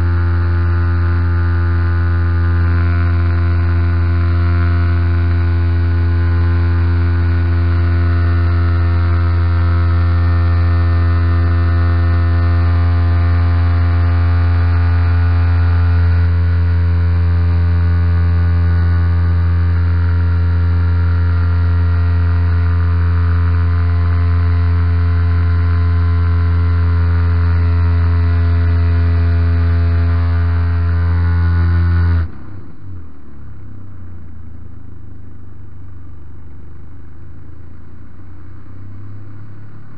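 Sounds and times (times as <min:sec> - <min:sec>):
model plane engine and propeller: 0:00.0 - 0:32.3.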